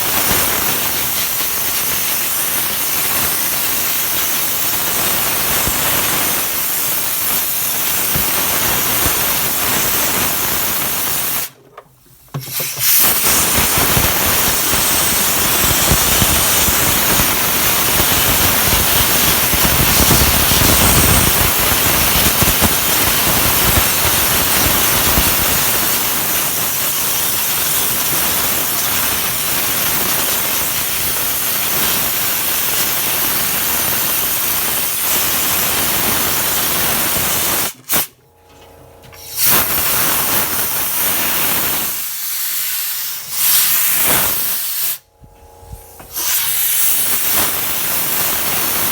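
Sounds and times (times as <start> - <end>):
loud hissing spray: 0.0 - 11.6, 12.4 - 38.1, 39.2 - 45.0, 46.1 - 48.9.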